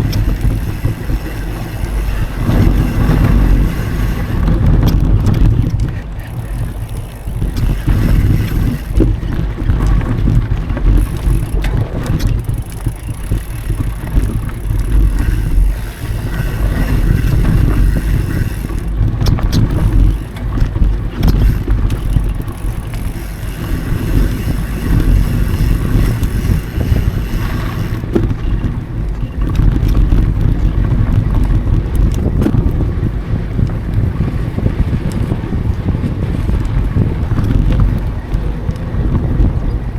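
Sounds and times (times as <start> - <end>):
bike rattling over bumps: 0.0 - 39.9
bike tyres rumbling on dirt: 0.0 - 39.9
wind buffeting microphone: 0.0 - 39.9.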